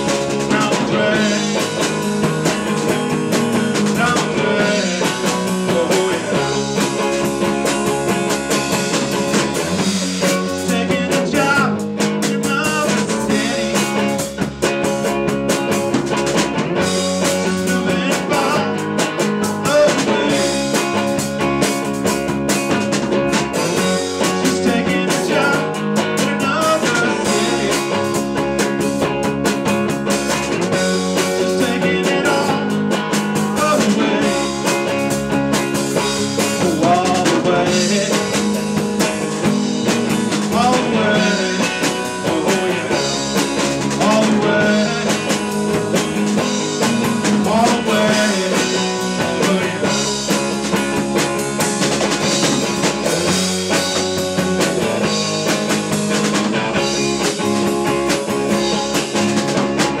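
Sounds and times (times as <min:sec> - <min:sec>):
drum kit: 0:00.0 - 1:00.0
electric bass: 0:00.0 - 1:00.0
electric guitar bending notes: 0:00.0 - 1:00.0.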